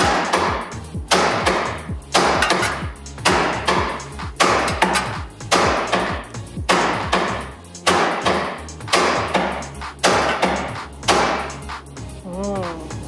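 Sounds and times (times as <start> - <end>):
hammer striking metal: 0.0 - 11.6.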